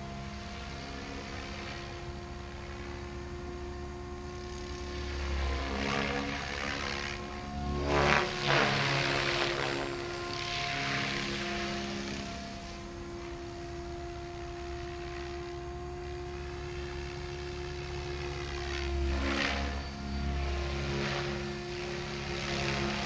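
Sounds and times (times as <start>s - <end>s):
rc helicopter rotor with motor whine: 0.0s - 23.0s.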